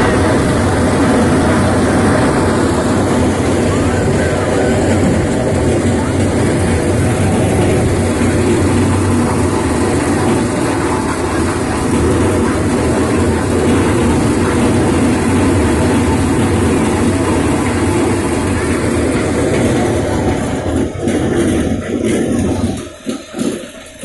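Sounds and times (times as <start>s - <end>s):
thresher machine running: 0.0s - 24.0s.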